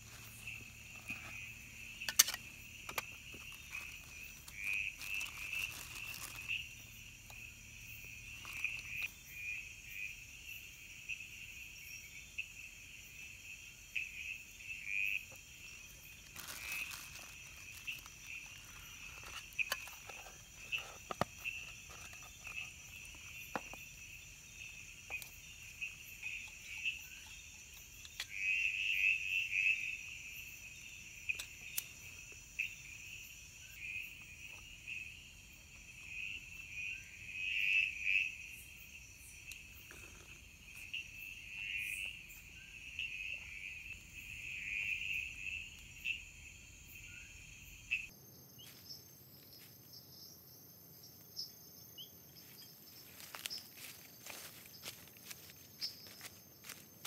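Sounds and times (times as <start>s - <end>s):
frog calls: 0.0s - 10.3s, 11.0s - 48.2s
insect chorus trilling: 0.0s - 57.0s.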